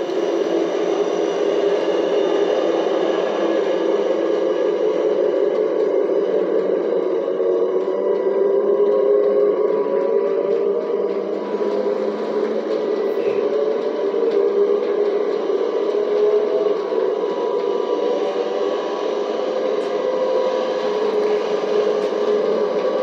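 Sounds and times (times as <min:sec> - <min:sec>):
motors and wheels whirring on track: 0:00.0 - 0:23.0
simulated diesel locomotive engine: 0:00.0 - 0:23.0.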